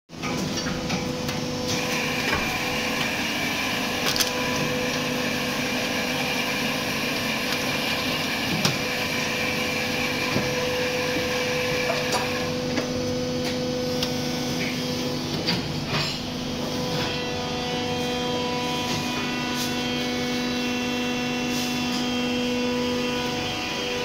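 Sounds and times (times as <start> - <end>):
high machine whine: 0.2 - 24.0
moulding machine humming: 0.2 - 24.0.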